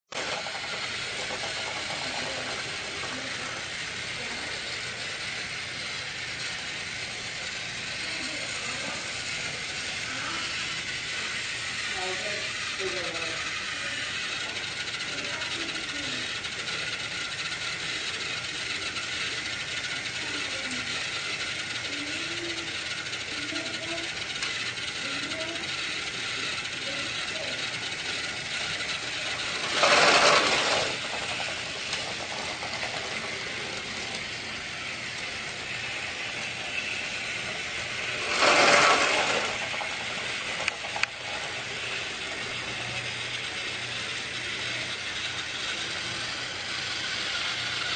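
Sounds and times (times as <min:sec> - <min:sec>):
toy train motor whirring: 0:00.1 - 0:47.9.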